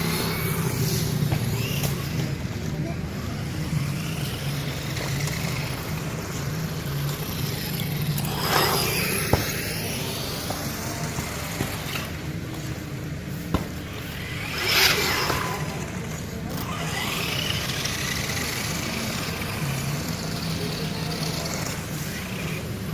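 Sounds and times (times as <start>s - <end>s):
rc truck electric motor whine: 0.0s - 22.9s.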